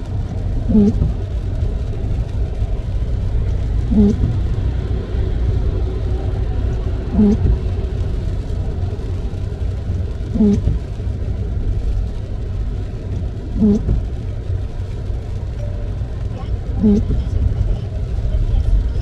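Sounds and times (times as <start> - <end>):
car driving on wet road: 0.0 - 19.0.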